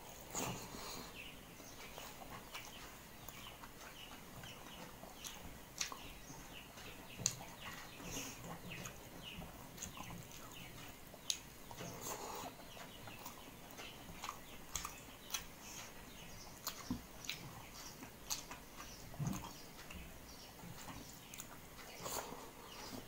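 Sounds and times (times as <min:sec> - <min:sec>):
person chewing and lip-smacking: 0:01.6 - 0:09.0, 0:09.6 - 0:23.0.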